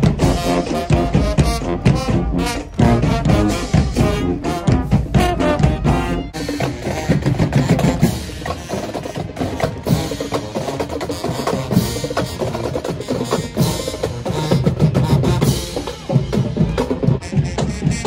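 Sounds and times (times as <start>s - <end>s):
drumline percussion cadence: 0.0s - 18.0s.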